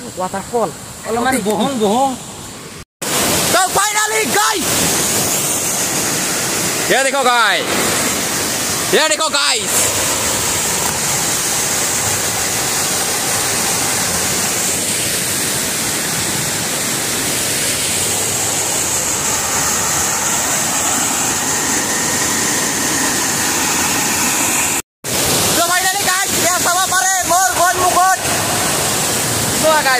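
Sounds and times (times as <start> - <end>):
waterfall over rocks: 3.0 - 29.9.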